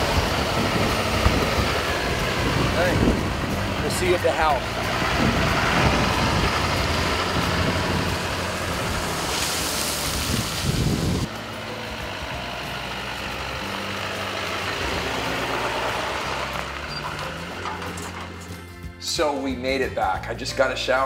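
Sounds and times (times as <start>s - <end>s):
truck driving past: 0.0s - 19.5s
engine humming: 0.0s - 21.0s.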